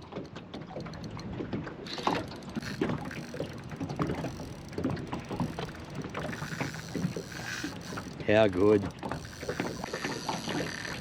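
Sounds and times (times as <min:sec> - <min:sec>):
fishing reel clicking: 0:01.8 - 0:11.0.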